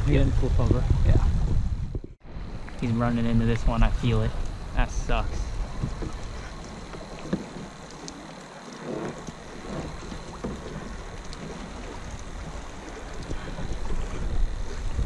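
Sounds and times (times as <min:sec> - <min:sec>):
wind buffeting microphone: 0:00.0 - 0:07.8, 0:09.2 - 0:15.0
water lapping around kayak: 0:00.0 - 0:15.0.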